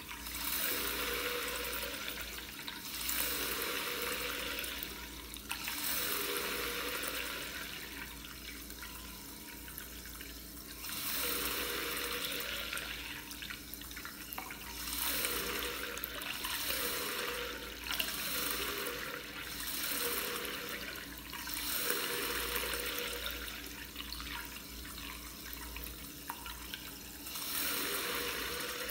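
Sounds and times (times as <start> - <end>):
tap water running into sink: 0.0 - 28.9.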